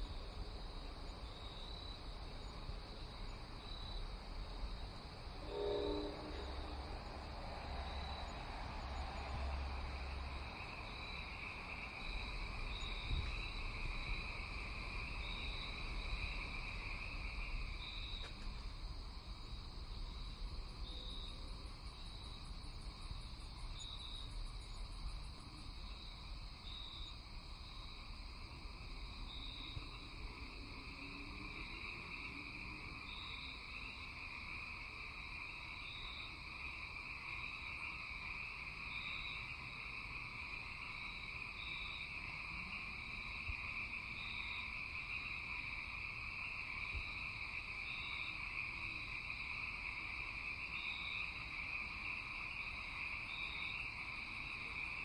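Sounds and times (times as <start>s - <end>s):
insect chirping: 0.0s - 55.0s
insects buzzing: 0.0s - 55.0s.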